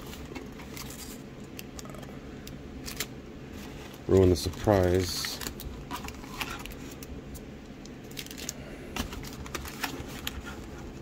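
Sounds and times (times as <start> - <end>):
card packs crinkling against cardboard: 0.0 - 2.1, 2.8 - 11.0.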